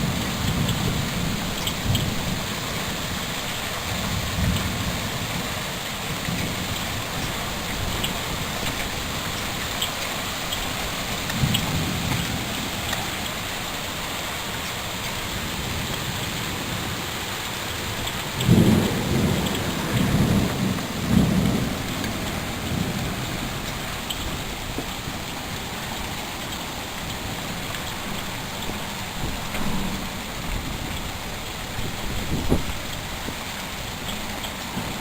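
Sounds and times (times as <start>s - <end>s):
steady rain falling: 0.0s - 35.0s
thunder rumbling: 0.0s - 35.0s.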